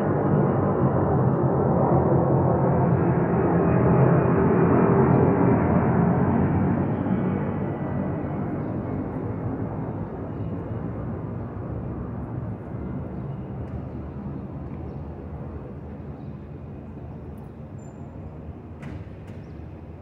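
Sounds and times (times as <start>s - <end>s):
jet airliner engines rumbling: 0.0s - 20.0s.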